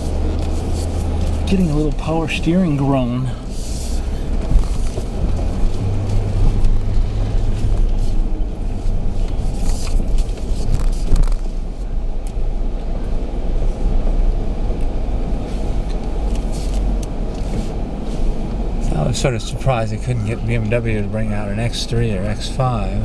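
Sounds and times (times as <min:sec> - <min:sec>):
engine and tyre rumble: 0:00.0 - 0:23.0
power steering groaning: 0:00.0 - 0:23.0.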